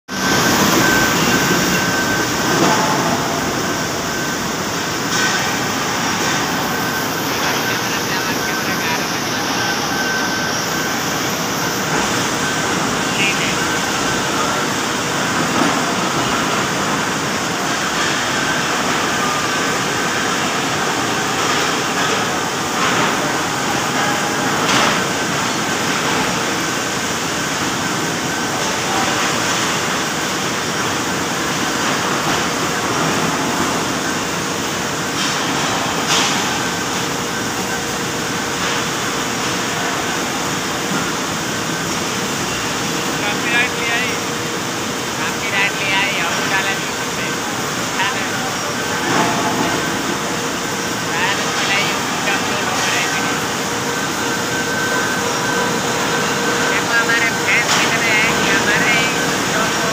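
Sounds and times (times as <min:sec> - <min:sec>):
lathe machining steel: 0:00.1 - 0:59.9.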